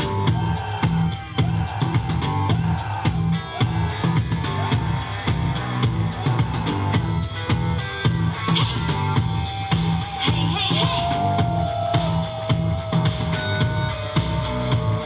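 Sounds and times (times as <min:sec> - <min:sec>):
upbeat pop song: 0:00.0 - 0:15.0.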